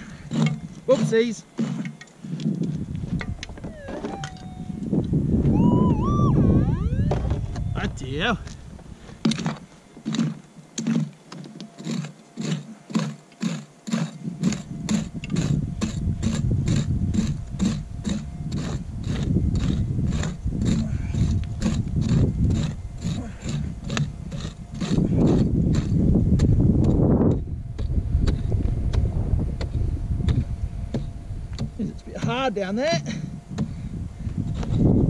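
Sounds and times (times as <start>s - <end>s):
wind rumble on microphone: 2.2s - 9.7s, 14.2s - 35.0s.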